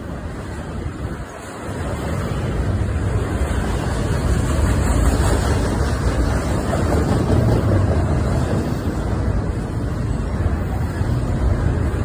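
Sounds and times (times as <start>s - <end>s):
freight train rolling by: 0.0s - 12.0s.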